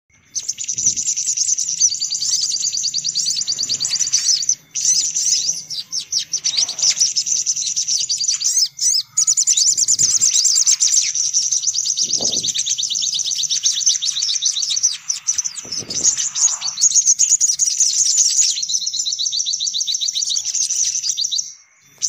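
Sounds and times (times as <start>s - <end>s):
birds chirping and trilling: 0.1s - 22.0s.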